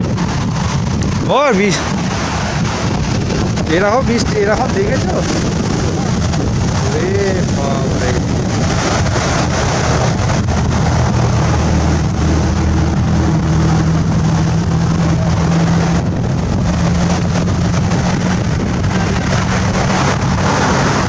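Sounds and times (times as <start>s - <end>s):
rough sea surf: 0.0s - 21.0s
steady low hum: 0.0s - 21.0s
wind buffeting microphone: 0.0s - 21.0s.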